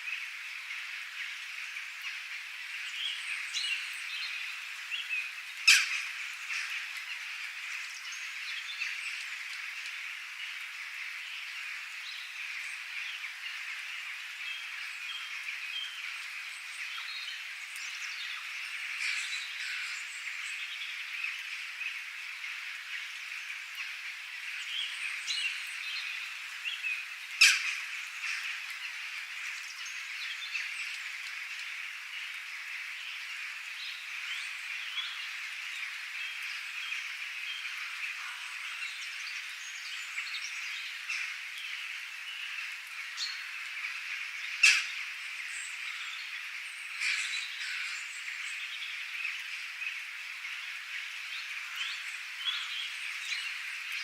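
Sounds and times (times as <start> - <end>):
frogs calling: 1.3 - 8.4, 12.8 - 54.0.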